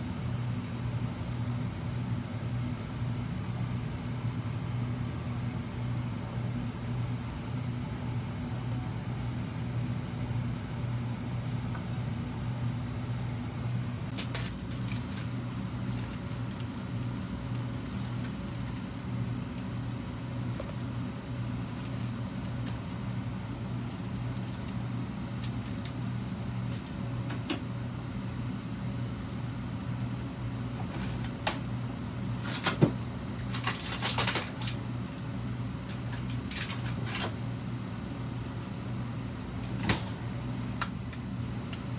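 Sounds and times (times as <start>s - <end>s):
low hum of fan motor: 0.0s - 41.9s.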